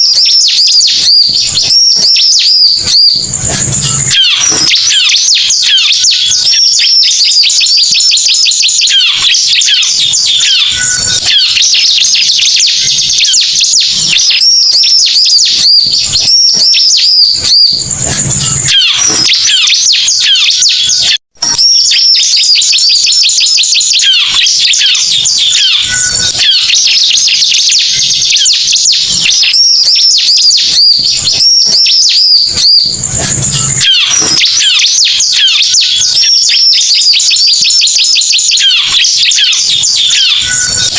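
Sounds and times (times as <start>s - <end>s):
bird chirps and trills: 0.0s - 40.9s.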